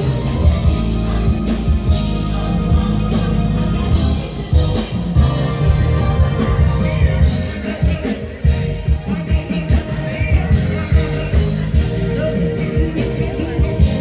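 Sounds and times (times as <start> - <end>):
heavy bass beat: 0.0 - 14.0
person singing: 0.0 - 14.0.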